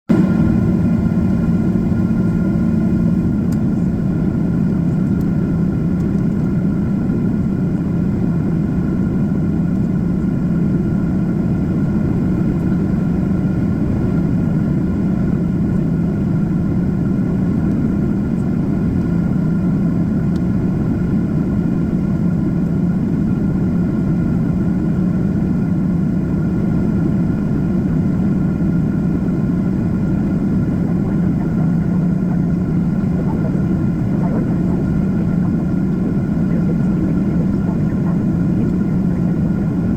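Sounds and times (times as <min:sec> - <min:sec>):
faint steady whine: 0:00.1 - 0:39.9
jet engine rumble in cabin: 0:00.1 - 0:39.9.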